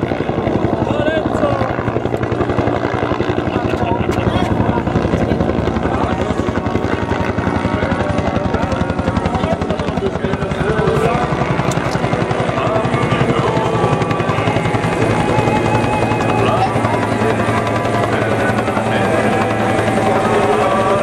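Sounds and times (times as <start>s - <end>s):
helicopter rotor beating overhead: 0.0s - 21.0s.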